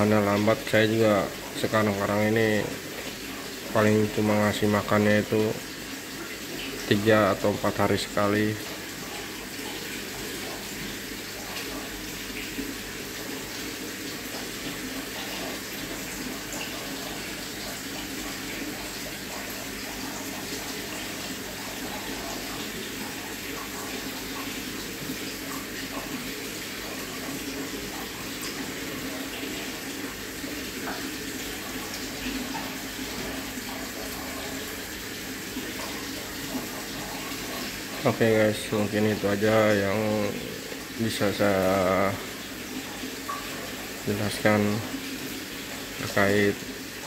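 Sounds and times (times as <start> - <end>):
water splashing into aquarium: 0.0 - 47.0.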